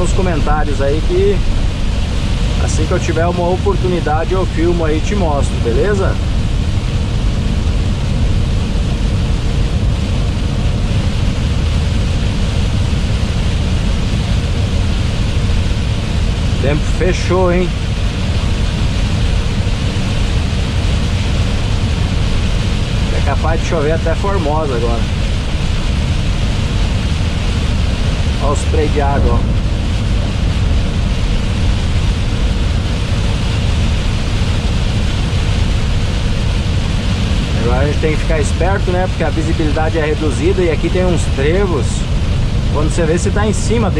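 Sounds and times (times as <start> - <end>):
heavy rain: 0.0 - 43.9
truck engine running: 0.0 - 43.9.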